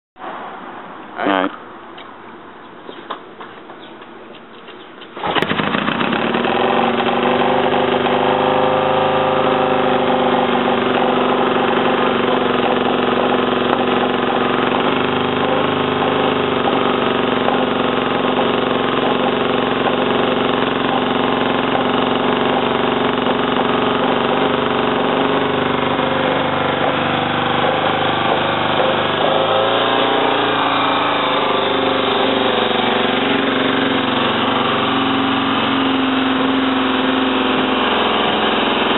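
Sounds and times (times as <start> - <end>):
motorcycle engine starting and running: 2.9 - 38.9.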